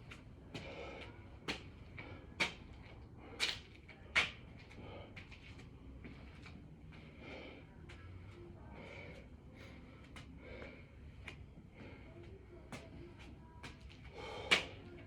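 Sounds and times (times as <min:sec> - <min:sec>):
heavy breathing: 0:00.5 - 0:03.6, 0:04.6 - 0:13.4, 0:14.0 - 0:15.0.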